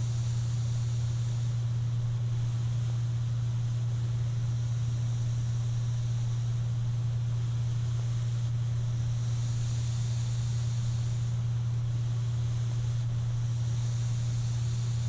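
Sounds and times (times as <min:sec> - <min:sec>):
cpap machine hum and hiss: 0:00.0 - 0:15.0.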